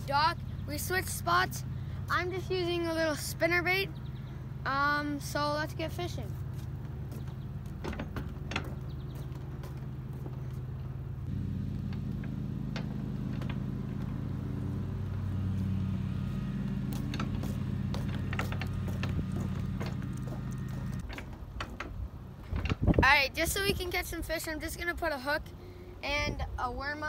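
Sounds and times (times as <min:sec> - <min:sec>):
engine droning: 0:00.0 - 0:22.6.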